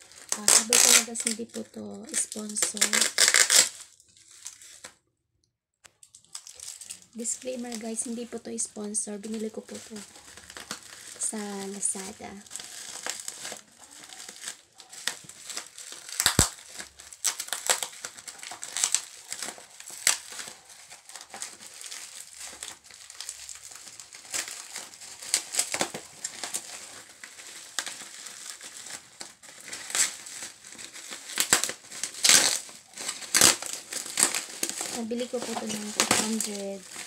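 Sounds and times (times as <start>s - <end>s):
bubble wrap crinkling: 0.0s - 5.0s, 5.9s - 37.0s.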